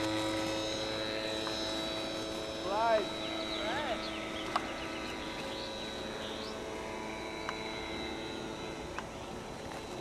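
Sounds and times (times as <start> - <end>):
electric motor and propeller whine: 0.0 - 10.0.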